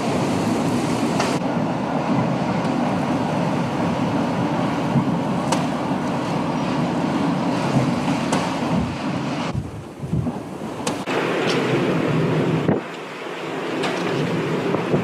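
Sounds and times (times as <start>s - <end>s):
wind buffeting the microphone: 0.0s - 13.0s, 13.6s - 15.0s.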